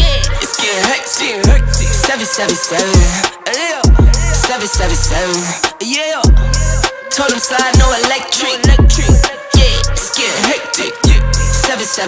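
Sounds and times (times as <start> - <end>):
hip hop music with deep bass: 0.0 - 12.0.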